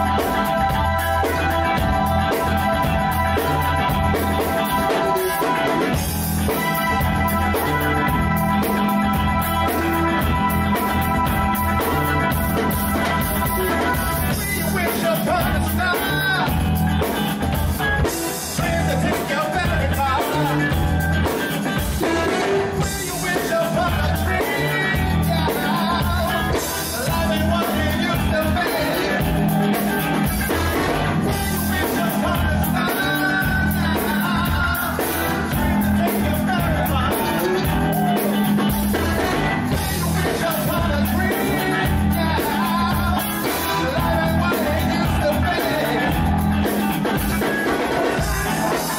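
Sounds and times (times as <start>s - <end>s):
drum kit: 0.0s - 48.9s
person singing: 0.0s - 48.9s
repeating bass line: 0.0s - 48.9s
soul band playing: 0.0s - 48.9s.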